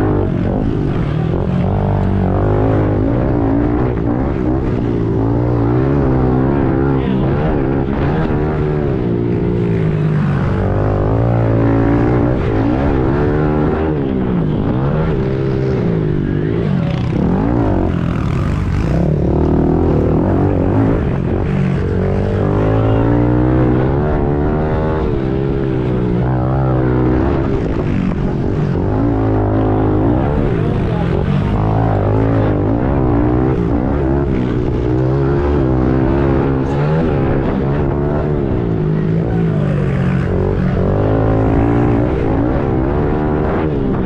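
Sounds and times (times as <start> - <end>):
pit bike engine revving: 0.0 - 44.0.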